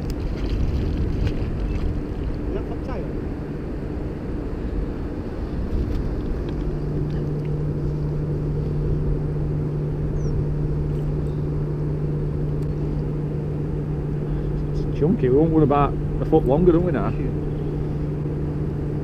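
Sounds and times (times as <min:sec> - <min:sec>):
deeper hum: 0:00.0 - 0:19.0
low engine drone: 0:00.0 - 0:19.0.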